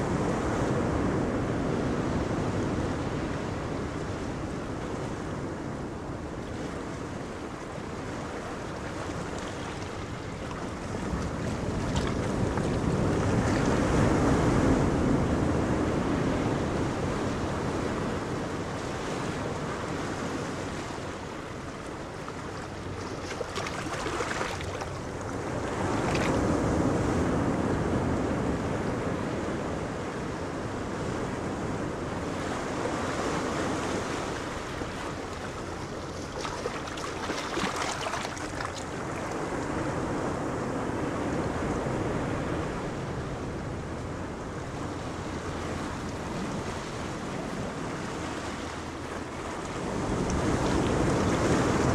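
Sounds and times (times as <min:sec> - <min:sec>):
choppy sea waves: 0:00.0 - 0:51.9
wind across microphone: 0:00.0 - 0:51.9.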